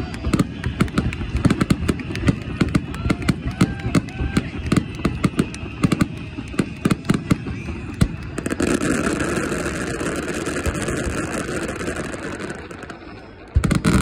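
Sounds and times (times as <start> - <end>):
fireworks bangs and crackles: 0.0 - 14.0
fireworks rumble: 0.0 - 14.0.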